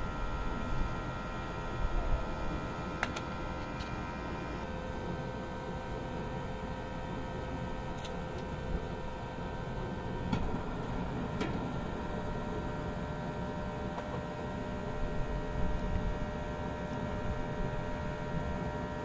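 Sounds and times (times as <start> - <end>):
wood fire humming and hissing: 0.0 - 19.0.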